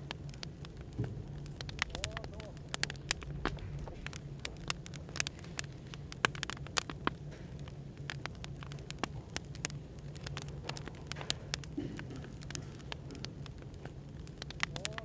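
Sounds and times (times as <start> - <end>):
firewood crackling and popping: 0.0 - 15.0
low hum of white noise: 0.0 - 15.0.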